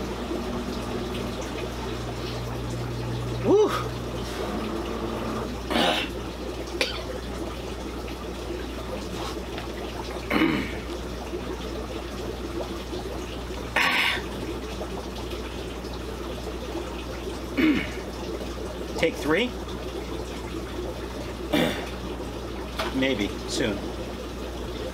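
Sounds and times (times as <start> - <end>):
running water from filtration: 0.0 - 24.9.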